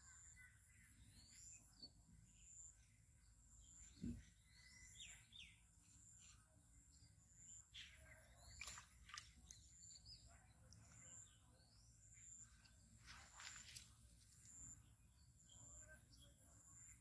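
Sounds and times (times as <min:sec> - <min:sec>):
bird chirps: 0:00.0 - 0:17.0.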